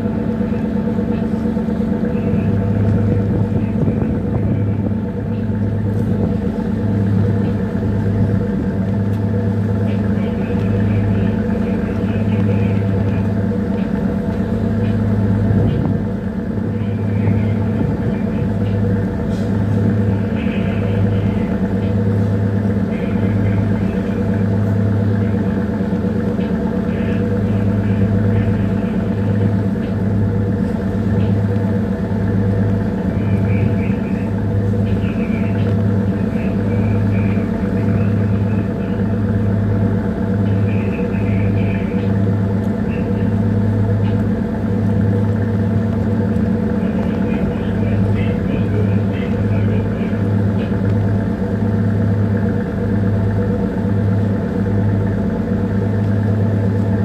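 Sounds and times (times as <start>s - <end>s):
ship diesel engine throbbing: 0.0s - 57.0s.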